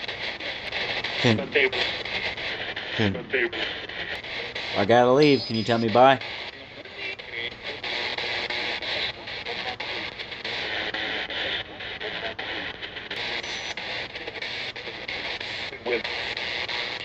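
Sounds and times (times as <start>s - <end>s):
rough static hiss: 0.0s - 17.0s.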